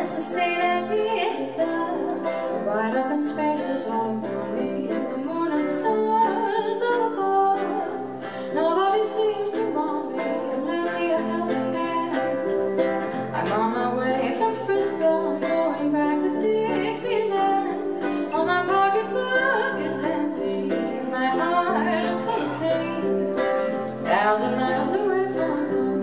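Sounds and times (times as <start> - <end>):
acoustic guitar: 0.0 - 26.0
ukulele: 0.0 - 26.0.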